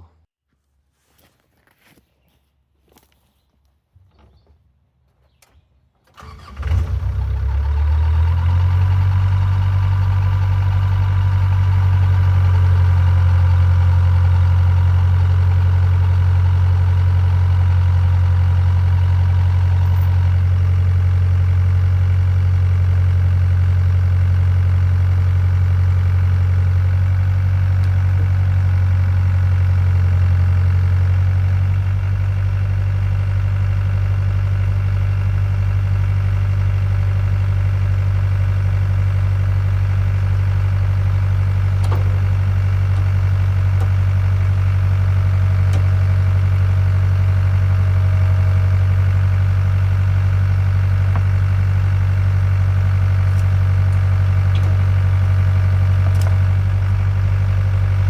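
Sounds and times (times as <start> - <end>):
excavator diesel engine starting and idling: 4.0 - 58.0.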